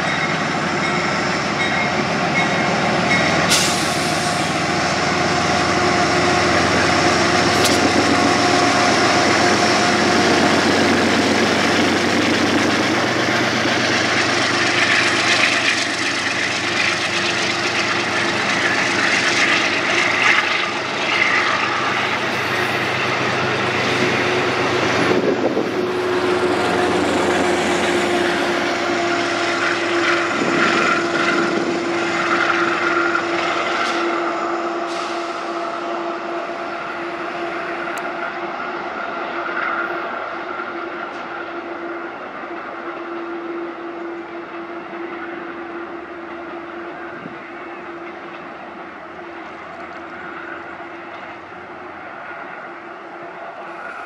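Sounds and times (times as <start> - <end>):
diesel locomotive engine drone: 0.0 - 54.0
train wheels rumbling on rails: 0.0 - 54.0.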